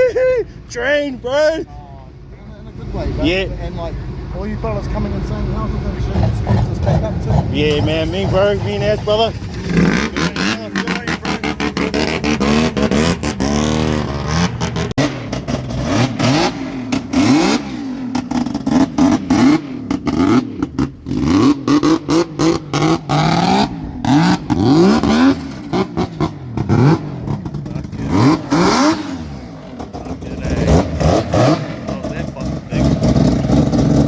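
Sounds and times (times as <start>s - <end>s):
car engine revving: 2.2s - 34.0s
sharp exhaust cracks: 4.3s - 34.0s.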